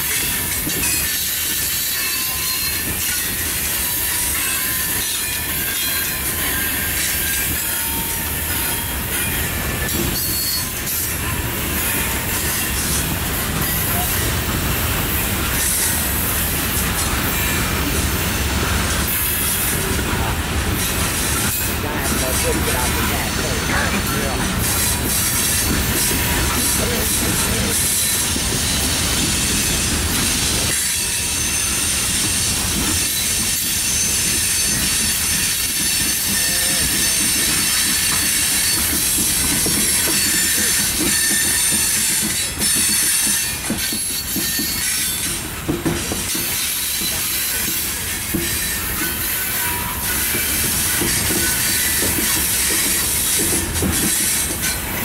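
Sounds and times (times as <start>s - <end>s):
steel wheels rumbling on rail: 0.0s - 55.0s
high wheel squeal: 0.1s - 14.4s, 23.0s - 45.4s, 46.1s - 55.0s.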